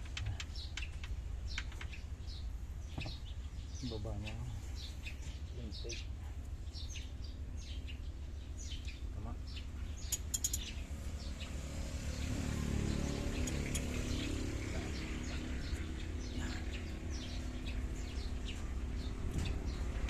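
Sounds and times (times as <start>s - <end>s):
low background rumble: 0.0s - 20.0s
small birds chirping: 0.0s - 20.0s.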